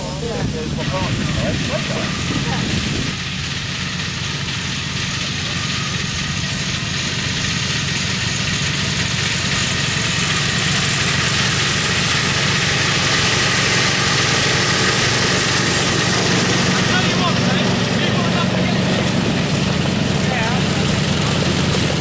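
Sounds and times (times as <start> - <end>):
miniature steam locomotive running: 0.0 - 22.0.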